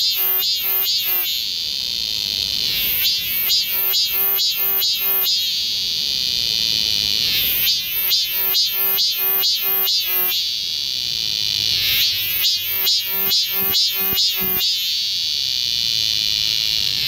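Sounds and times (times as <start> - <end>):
cicada singing: 0.0 - 17.0.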